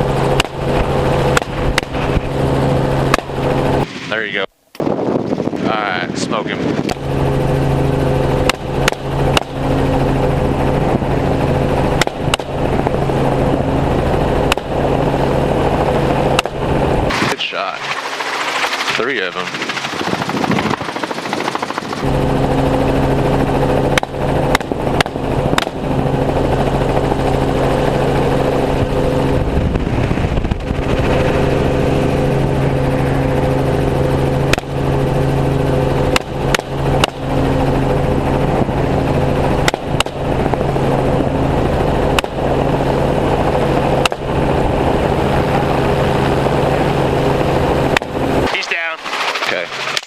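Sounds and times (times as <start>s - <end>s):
helicopter flying: 0.0s - 50.0s.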